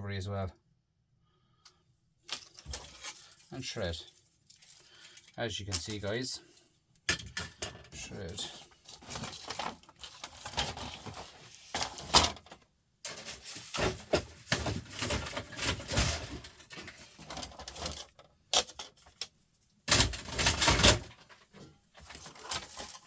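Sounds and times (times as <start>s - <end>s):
small parts clicking and clattering: 1.6s - 6.2s, 7.0s - 23.0s.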